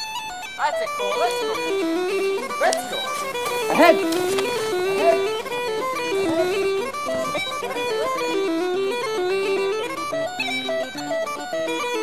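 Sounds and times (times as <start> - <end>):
bagpipe melody: 0.0 - 12.0.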